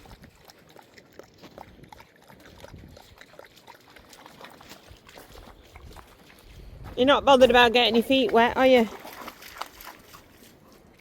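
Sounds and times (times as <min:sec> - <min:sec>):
dog splashing through water: 0:00.0 - 0:11.0.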